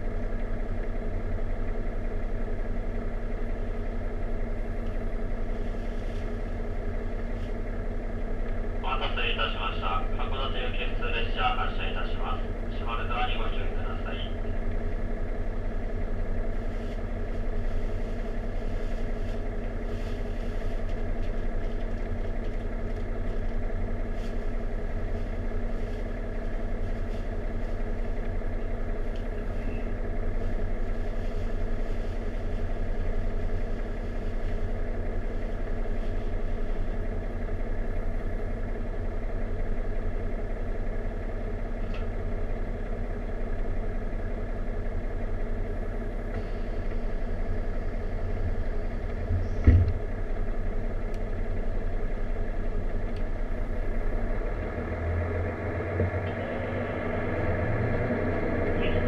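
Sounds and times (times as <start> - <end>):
diesel train engine idling: 0.0 - 59.0.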